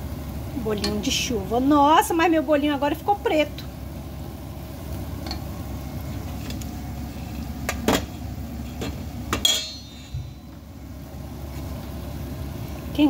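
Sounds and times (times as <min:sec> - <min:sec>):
batter deep-frying in oil: 0:00.0 - 0:13.0
steady low rumble: 0:00.0 - 0:13.0.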